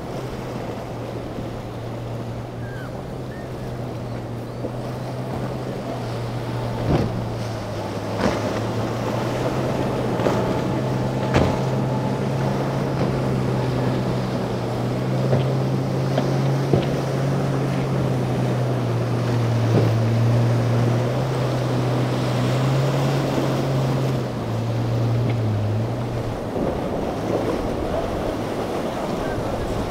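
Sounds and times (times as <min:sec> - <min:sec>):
boat hull slapping waves: 0:00.0 - 0:29.9
outboard engines droning: 0:00.0 - 0:29.9.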